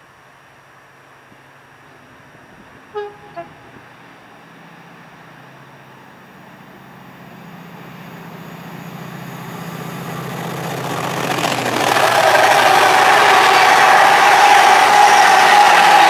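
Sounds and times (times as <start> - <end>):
diesel locomotive engine: 0.0 - 16.0.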